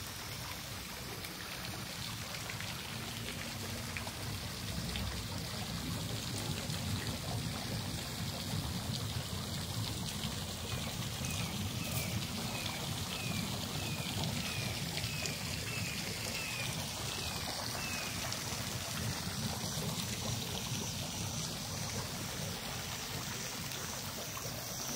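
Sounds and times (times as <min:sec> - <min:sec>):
water churning in a spa: 0:00.0 - 0:24.9.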